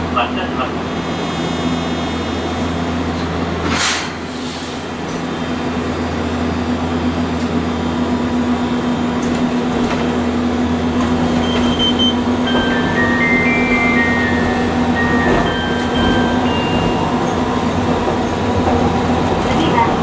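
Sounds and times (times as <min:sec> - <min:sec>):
tram interior hum: 0:00.0 - 0:20.0.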